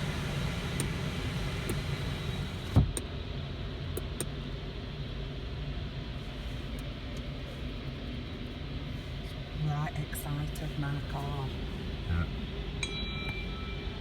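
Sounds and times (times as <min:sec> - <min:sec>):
car engine hum: 0:00.0 - 0:14.0.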